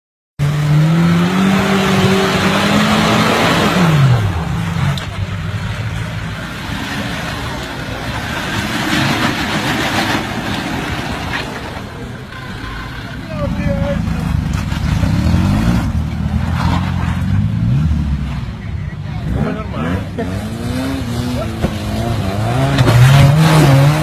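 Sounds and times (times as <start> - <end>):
off-road vehicle engine revving: 0.4 - 24.0
outdoor noise: 0.4 - 24.0.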